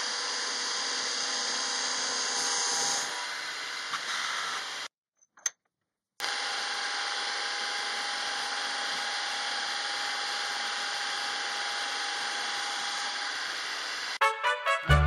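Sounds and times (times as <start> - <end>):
milling machine cutting metal: 0.0 - 4.9, 6.2 - 14.2.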